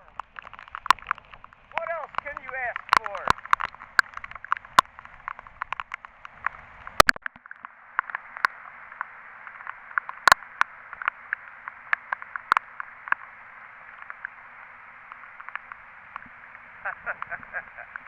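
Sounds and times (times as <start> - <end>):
heavy rain pouring: 0.0 - 18.0
raindrops striking camera: 0.0 - 18.0.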